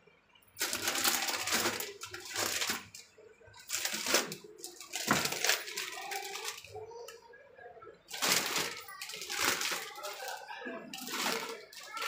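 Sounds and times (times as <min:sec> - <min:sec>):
plastic packaging crinkling: 0:00.6 - 0:07.2, 0:08.1 - 0:12.0.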